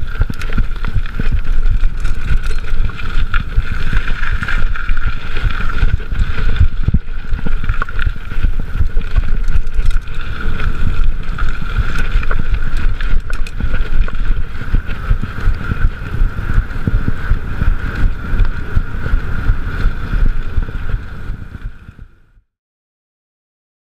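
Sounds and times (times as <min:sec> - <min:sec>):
wind buffeting microphone: 0:00.0 - 0:22.2
steady high whine: 0:00.0 - 0:22.3
bike tyre rumble: 0:00.0 - 0:22.4.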